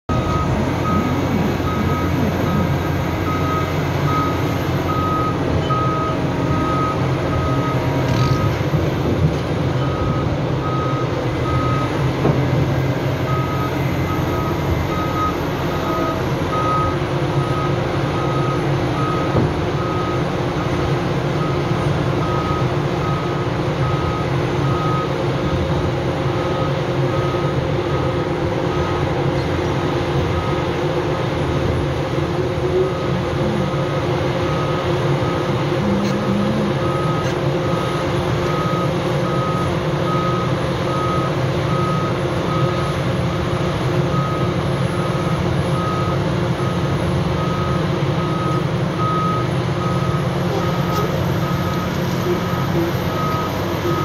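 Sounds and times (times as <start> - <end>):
diesel engine drone: 0.0 - 54.0
travel alarm beeping: 0.1 - 9.2, 9.8 - 12.0, 13.0 - 25.7, 26.3 - 29.2, 32.6 - 54.0.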